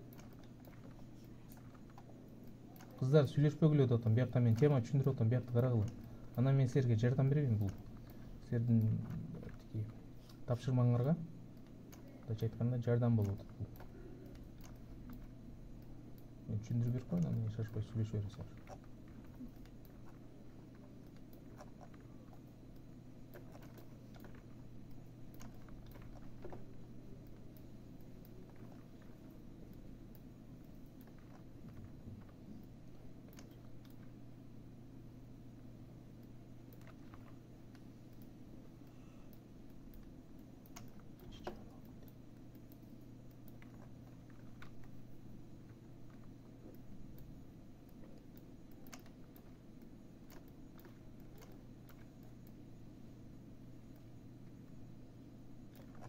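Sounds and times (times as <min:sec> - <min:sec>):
mouse and keyboard clicking: 0:00.0 - 0:34.2, 0:36.2 - 0:52.8, 0:55.6 - 0:56.0
steady low hum: 0:00.0 - 0:56.0.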